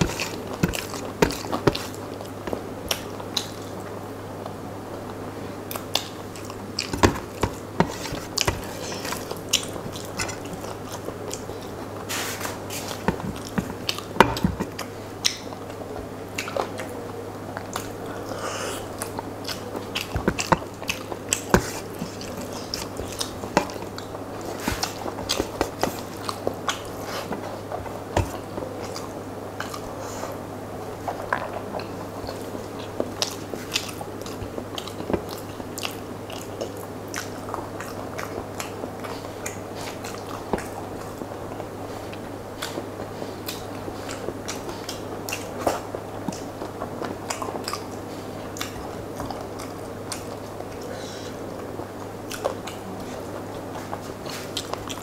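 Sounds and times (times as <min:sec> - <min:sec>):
man chewing wetly: 0:00.0 - 0:55.0.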